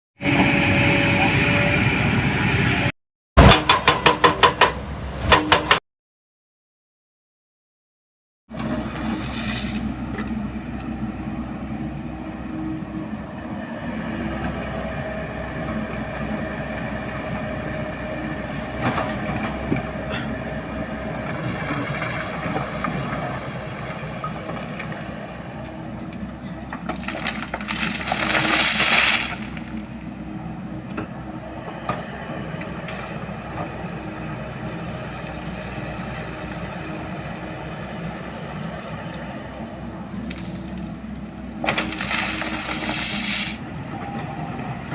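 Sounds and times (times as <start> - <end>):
diesel engine running: 8.5 - 44.9.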